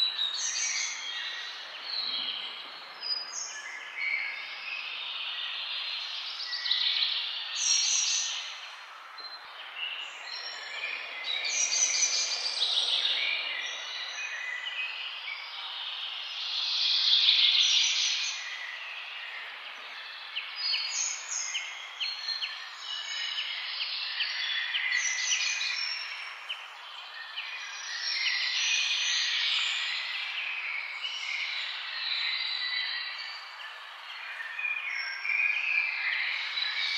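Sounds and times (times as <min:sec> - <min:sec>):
songbirds chirping and singing: 0:00.0 - 0:36.9.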